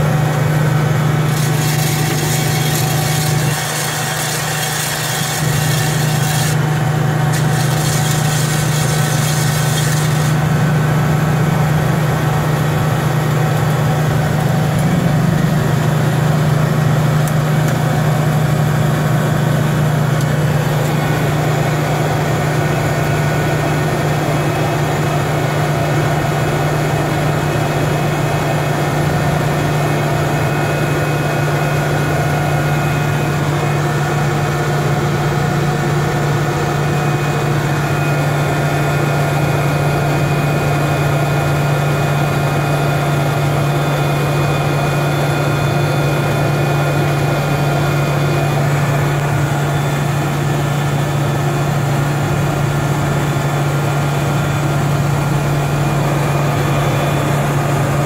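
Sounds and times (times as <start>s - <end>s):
turboprop engine drone: 0.0s - 58.0s.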